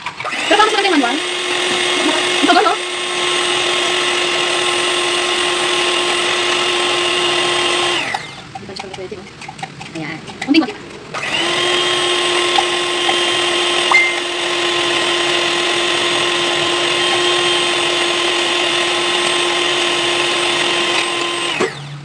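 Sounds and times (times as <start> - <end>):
electric hand mixer whipping: 0.0 - 22.0.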